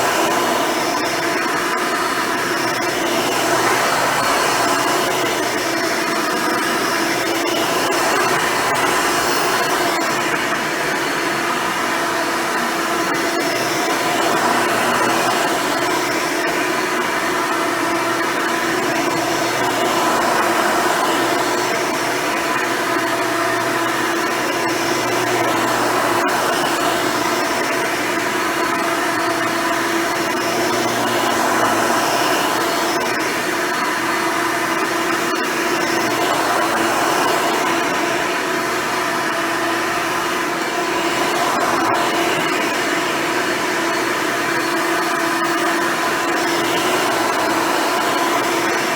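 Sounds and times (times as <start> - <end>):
vacuum cleaner motor hum: 0.0 - 48.9.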